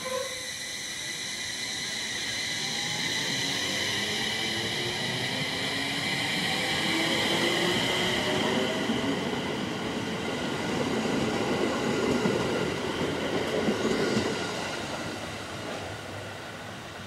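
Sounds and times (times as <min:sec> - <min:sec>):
electric train whine: 0:00.0 - 0:17.0.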